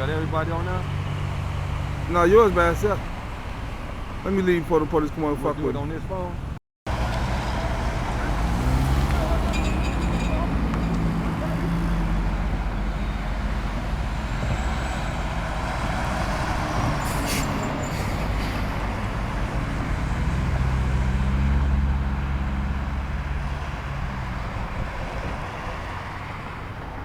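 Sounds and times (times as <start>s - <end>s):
road noise: 0.0s - 27.0s.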